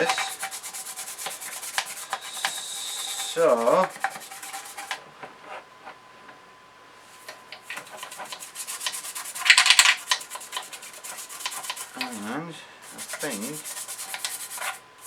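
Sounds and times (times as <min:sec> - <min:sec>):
toothbrush scrubbing metal parts: 0:00.0 - 0:05.0, 0:07.2 - 0:14.9.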